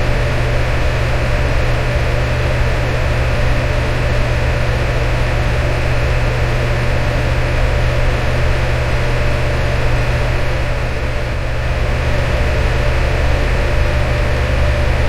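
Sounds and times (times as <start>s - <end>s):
electric fan running: 0.0s - 15.0s.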